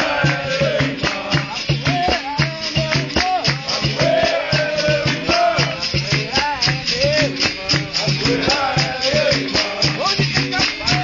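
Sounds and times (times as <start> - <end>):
berimbaus struck rhythmically: 0.0 - 11.0
shakers rattling: 0.0 - 11.0.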